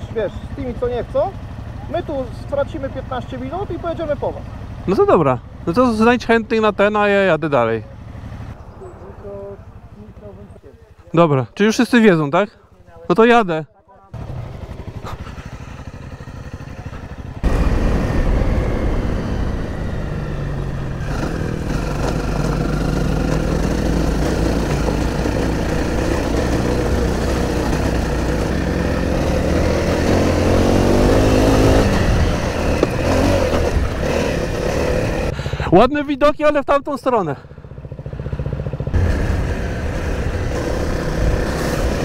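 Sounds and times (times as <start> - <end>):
motorcycle engine: 0.0 - 13.3, 14.0 - 36.1, 37.1 - 42.0.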